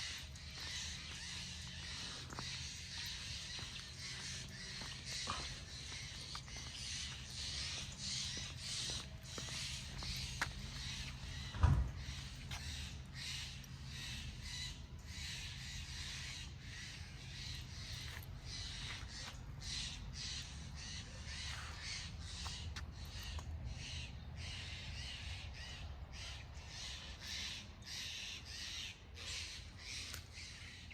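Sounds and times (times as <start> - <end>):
birds cawing harshly: 0.0 - 30.9.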